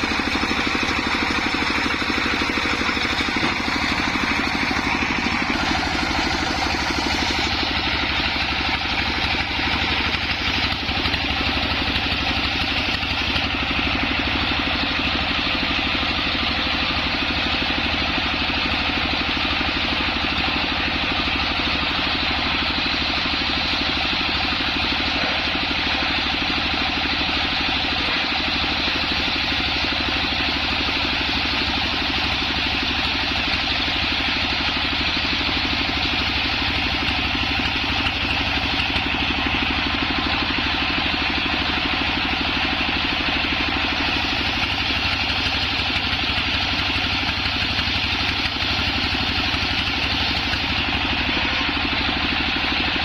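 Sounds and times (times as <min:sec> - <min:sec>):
sawmill machine drone: 0:00.0 - 0:53.0.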